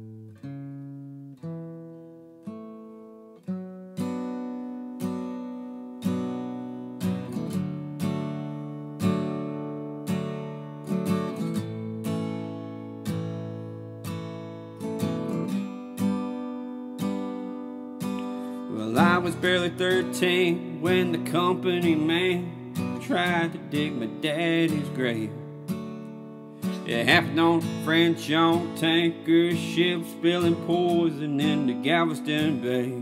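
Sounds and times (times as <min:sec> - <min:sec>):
acoustic guitar strummed: 0:00.0 - 0:33.0.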